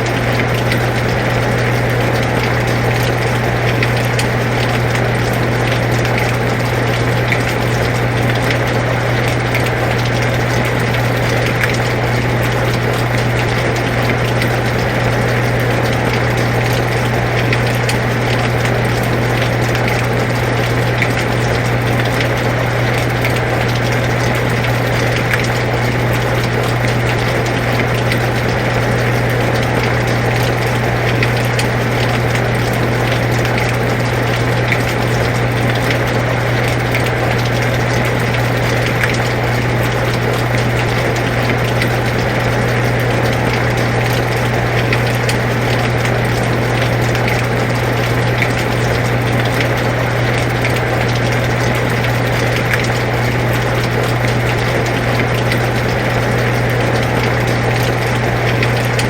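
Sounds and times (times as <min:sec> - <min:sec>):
air conditioner humming: 0:00.0 - 0:59.0
drops ticking: 0:00.0 - 0:59.0.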